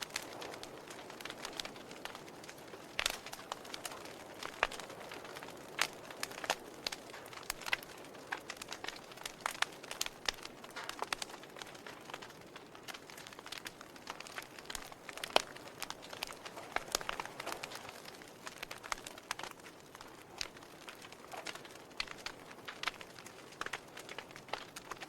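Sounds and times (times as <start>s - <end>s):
fire crackling and popping: 0.0s - 25.0s
soft steady hiss: 0.0s - 25.0s.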